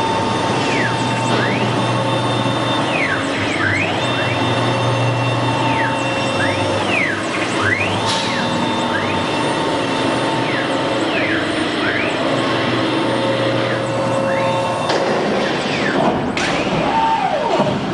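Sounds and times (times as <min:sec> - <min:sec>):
cnc router running: 0:00.0 - 0:17.9
drive motors whining: 0:00.0 - 0:17.9.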